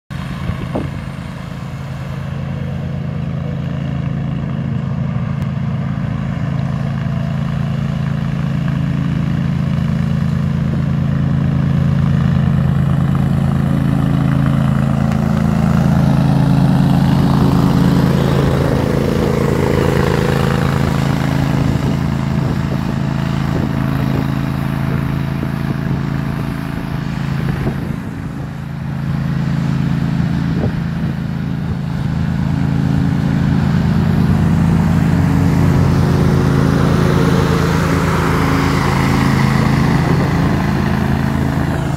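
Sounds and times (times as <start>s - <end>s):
ride-on mower engine hum: 0.1s - 41.9s.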